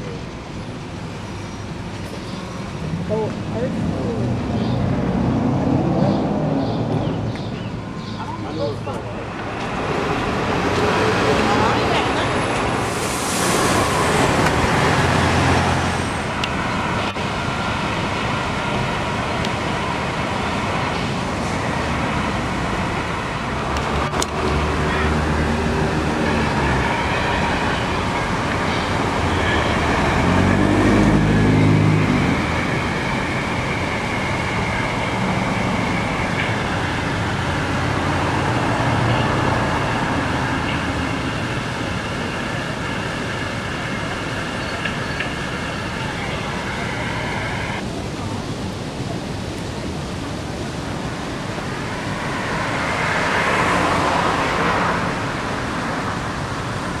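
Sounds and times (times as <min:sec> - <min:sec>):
vehicles driving past: 0:00.0 - 0:57.0.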